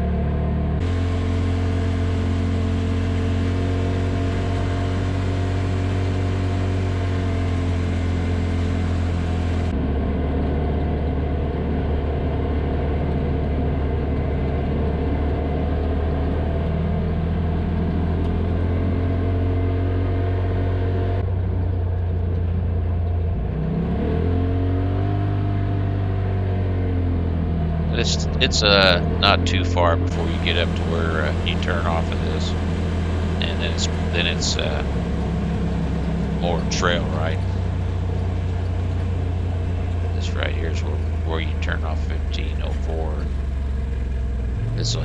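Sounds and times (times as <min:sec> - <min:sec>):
tyre and road noise: 0:00.0 - 0:45.0
vehicle engine droning: 0:00.0 - 0:45.0.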